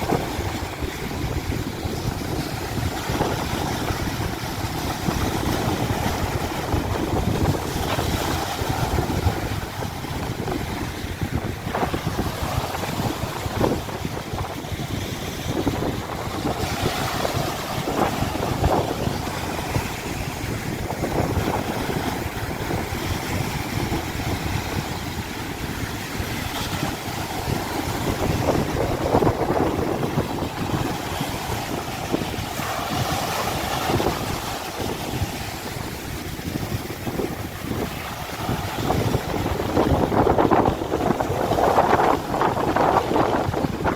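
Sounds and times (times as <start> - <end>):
sea surf: 0.0 - 43.9
wind buffeting microphone: 0.0 - 43.9.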